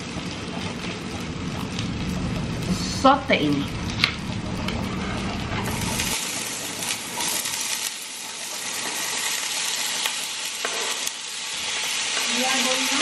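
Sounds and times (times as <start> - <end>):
vegetables sizzling in a pan: 0.0 - 4.3, 4.9 - 13.0.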